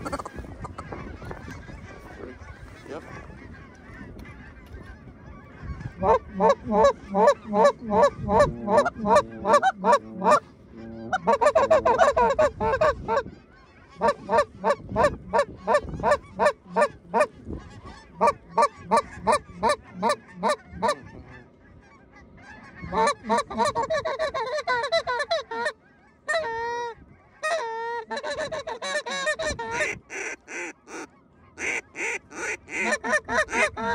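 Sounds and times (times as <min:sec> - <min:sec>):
geese honking: 0:00.0 - 0:33.9.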